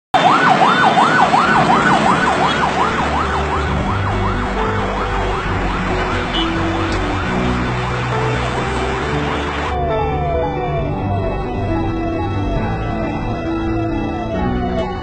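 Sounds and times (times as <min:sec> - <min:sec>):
ambulance siren wailing: 0:00.2 - 0:15.0
traffic noise: 0:00.2 - 0:15.0.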